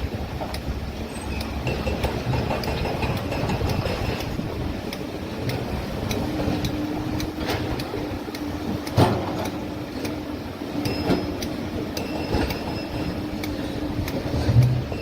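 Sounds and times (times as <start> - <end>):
low engine hum: 0.0 - 15.0
metallic clicks and clanks: 0.4 - 10.2, 10.8 - 15.0.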